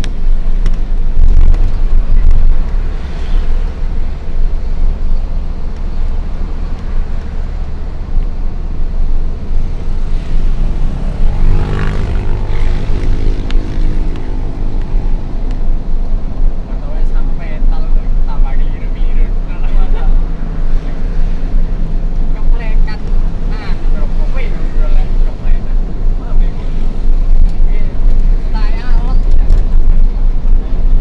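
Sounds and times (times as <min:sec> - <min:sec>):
road noise: 0:00.0 - 0:31.0.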